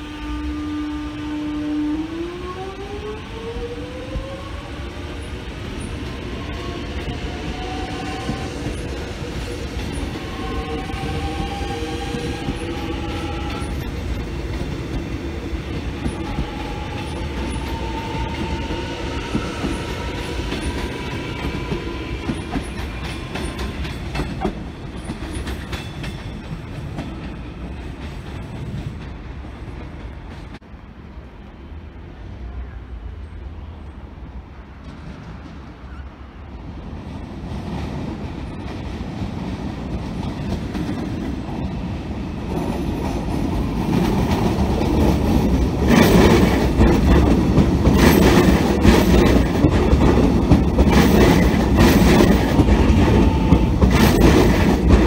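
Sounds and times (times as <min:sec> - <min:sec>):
train wheels clacking on rails: 0:03.2 - 0:30.6, 0:37.0 - 0:55.0.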